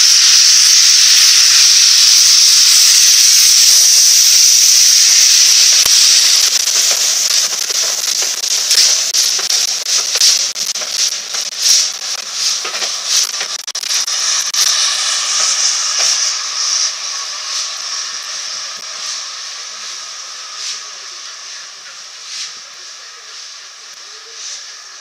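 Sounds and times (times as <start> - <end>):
steam locomotive hissing steam: 0.0 - 25.0.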